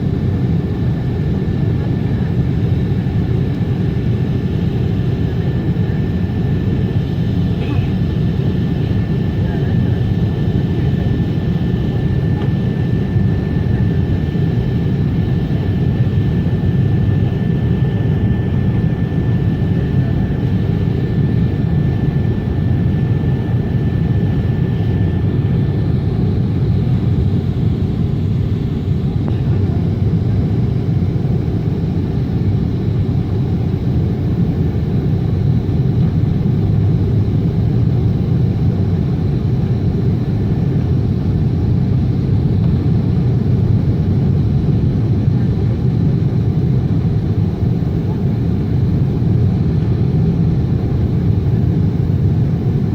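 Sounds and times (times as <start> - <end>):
aircraft cabin engine rumble: 0.0 - 52.9.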